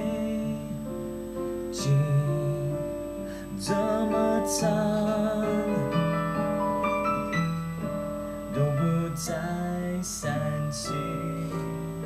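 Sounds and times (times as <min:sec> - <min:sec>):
man singing: 0:00.0 - 0:06.6, 0:08.5 - 0:11.8
piano ballad chords: 0:00.0 - 0:12.0.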